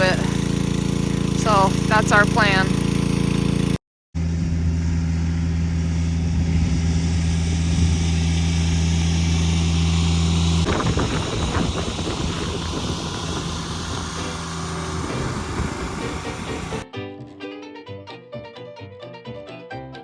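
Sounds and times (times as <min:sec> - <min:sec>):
engine idling: 0:00.0 - 0:16.8.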